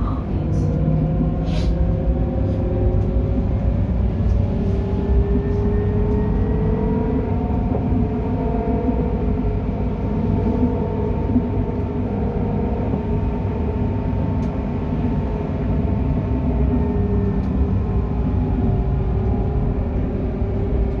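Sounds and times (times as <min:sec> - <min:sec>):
tram rumble: 0:00.0 - 0:21.0.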